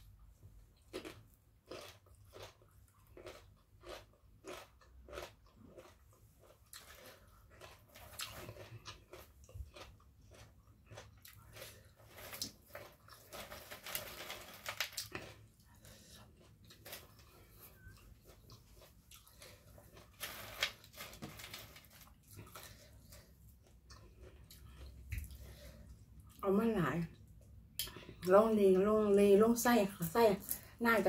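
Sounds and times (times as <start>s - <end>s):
person chewing crunchy food: 0.0s - 26.4s.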